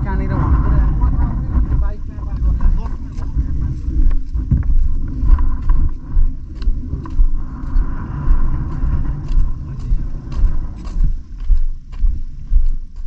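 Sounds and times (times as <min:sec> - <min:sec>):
microphone handling thumps: 0:00.0 - 0:12.8
wind noise on microphone: 0:00.0 - 0:13.0.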